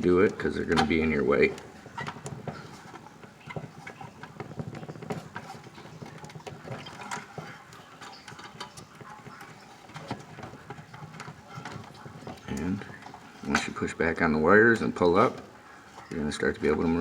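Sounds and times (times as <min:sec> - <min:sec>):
clicks and knocks of handling wiring: 0:00.0 - 0:17.0.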